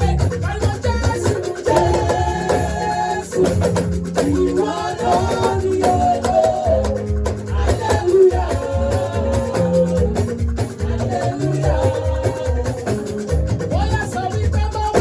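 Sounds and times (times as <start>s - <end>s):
percussion steady beat: 0.0s - 15.0s
praise music singing: 0.0s - 15.0s.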